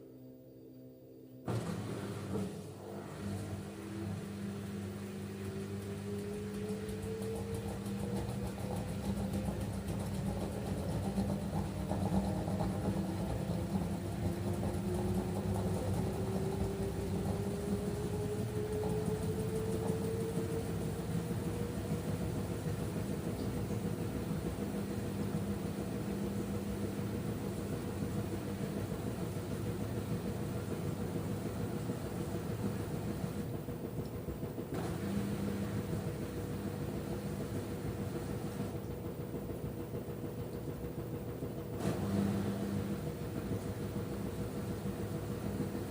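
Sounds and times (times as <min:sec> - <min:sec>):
washing machine spinning: 0:01.4 - 0:45.9.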